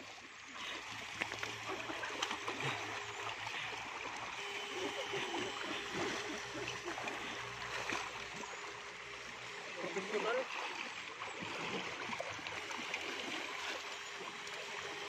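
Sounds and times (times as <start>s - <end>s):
river water splashing and rushing: 0.0s - 15.0s
faint low hum: 0.1s - 15.0s.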